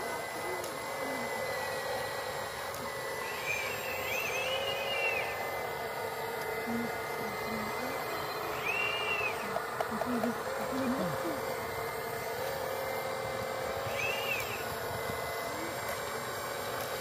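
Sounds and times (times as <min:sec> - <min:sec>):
excavator diesel engines running: 0:00.0 - 0:17.0
high whine: 0:00.0 - 0:17.0.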